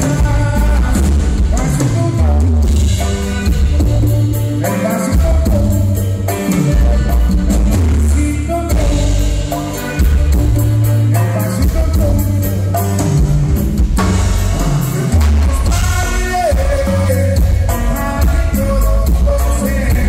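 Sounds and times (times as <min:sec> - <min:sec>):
heavy bass line: 0:00.0 - 0:20.0
live latin band playing: 0:00.0 - 0:20.0.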